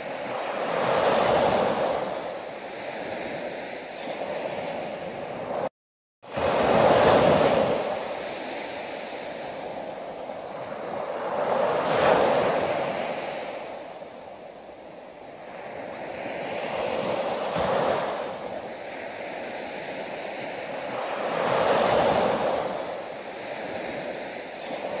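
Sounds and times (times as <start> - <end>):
ocean surf breaking on beach: 0.0 - 5.7, 6.3 - 25.0.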